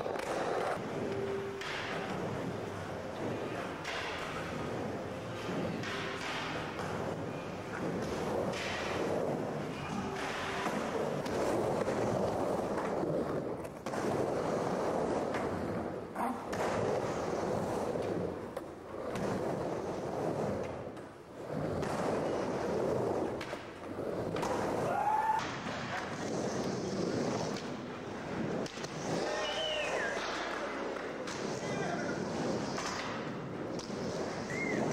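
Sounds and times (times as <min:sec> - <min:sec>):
skateboard wheels rolling on ramp: 0:00.0 - 0:34.9.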